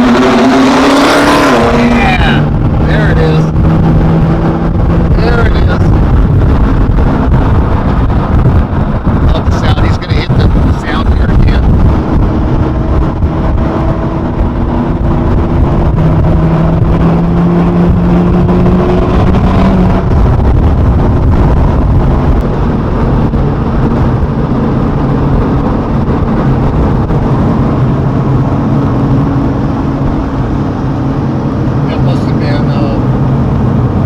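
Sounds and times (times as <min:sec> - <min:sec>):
road noise: 0:00.0 - 0:34.0
sports car engine accelerating: 0:00.0 - 0:34.0.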